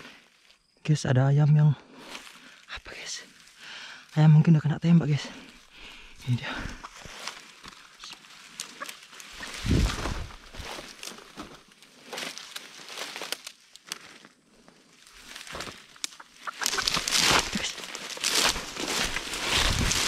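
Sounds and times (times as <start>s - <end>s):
leaves and brush rustling: 1.9s - 20.0s.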